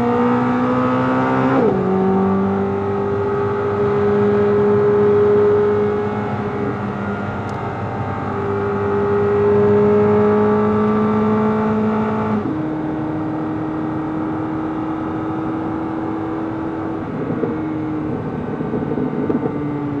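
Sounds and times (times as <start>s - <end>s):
sports car engine at high revs: 0.0s - 20.0s.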